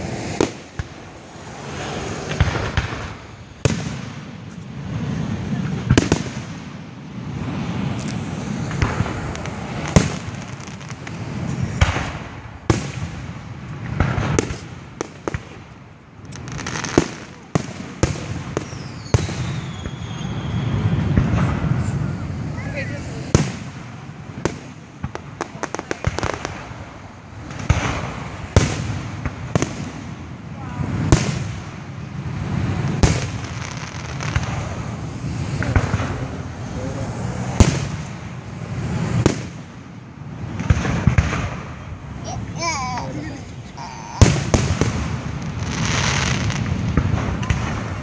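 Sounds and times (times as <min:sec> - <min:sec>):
fireworks bangs: 0:00.0 - 0:48.0.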